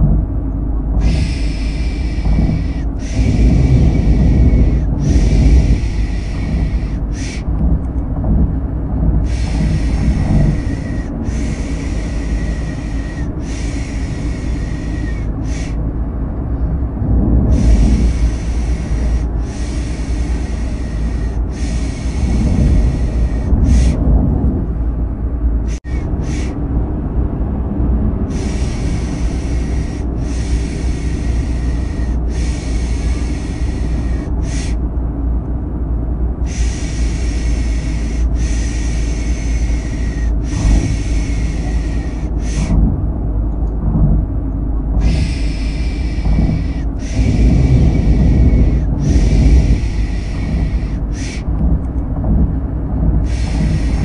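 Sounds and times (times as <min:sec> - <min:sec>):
rhythmic shushing: 0:00.0 - 0:15.9, 0:16.5 - 0:26.6, 0:28.2 - 0:35.2, 0:36.3 - 0:54.0
car engine and road rumble: 0:00.0 - 0:54.0.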